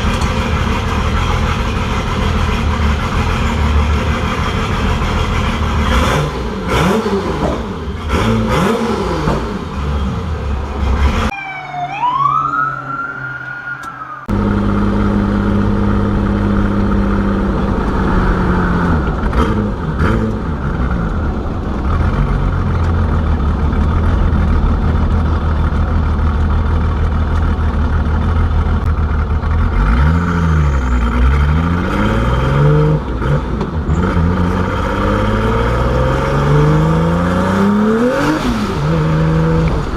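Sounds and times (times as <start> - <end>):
car engine revving while driving: 0.0 - 11.3, 14.3 - 25.2, 29.4 - 39.9.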